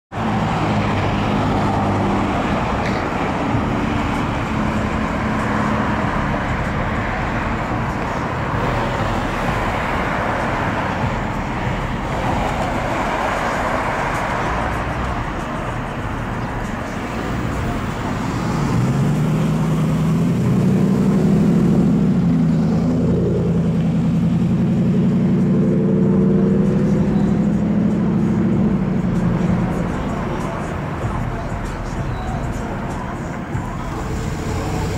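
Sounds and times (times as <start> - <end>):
road traffic passing: 0.1 - 34.9.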